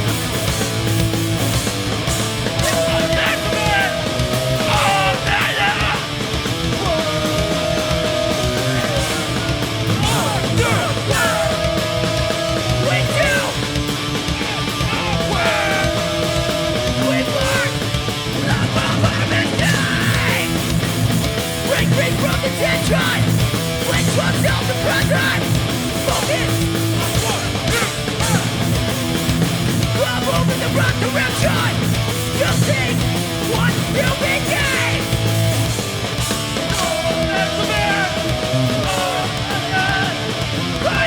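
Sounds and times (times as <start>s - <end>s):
punk band playing live: 0.0s - 41.0s.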